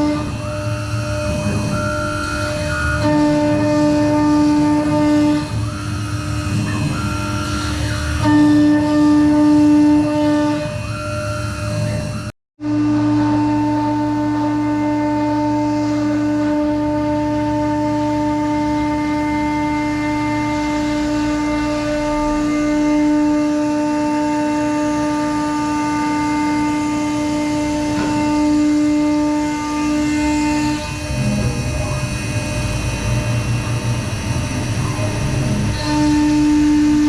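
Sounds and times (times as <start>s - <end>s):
router spindle whine: 0.0s - 37.0s.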